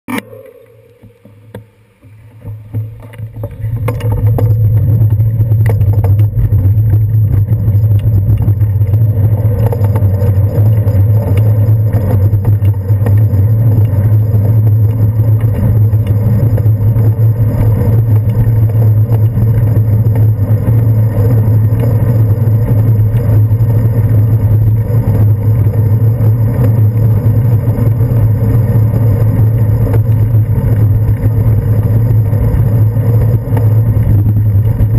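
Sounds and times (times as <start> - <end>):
road vibration: 0.1 - 34.9
motor traffic: 2.0 - 34.9
wind rumble on camera: 2.4 - 34.9.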